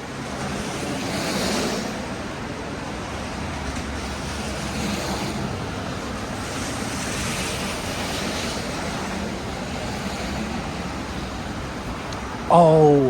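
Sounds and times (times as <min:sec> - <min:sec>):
traffic on wet street: 0:00.0 - 0:13.0
rain hiss: 0:00.2 - 0:02.2, 0:03.9 - 0:13.0.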